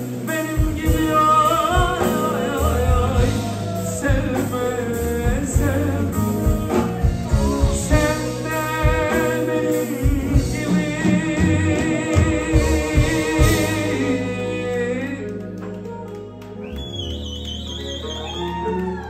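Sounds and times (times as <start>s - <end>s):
live folk band playing: 0.0s - 19.0s.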